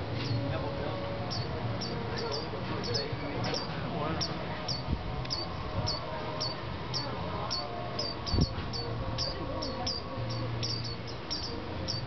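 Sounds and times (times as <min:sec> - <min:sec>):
small bird chirping: 0:01.2 - 0:12.0.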